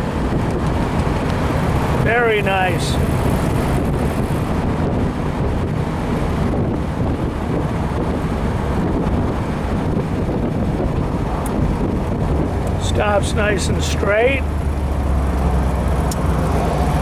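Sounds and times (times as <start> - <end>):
car engine running: 0.0 - 17.0
road noise: 0.0 - 17.0
wind buffeting microphone: 0.0 - 17.0.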